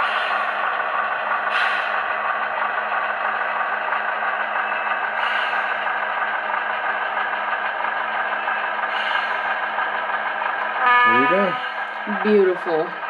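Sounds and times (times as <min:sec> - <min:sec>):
model locomotive engine sound: 0:00.0 - 0:13.0.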